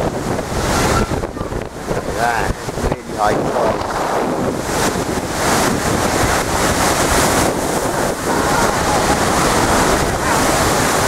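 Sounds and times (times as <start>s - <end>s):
water washing over wall: 0.0s - 11.0s
waves breaking against sea wall: 0.0s - 11.0s
wind buffeting microphone: 0.0s - 11.0s.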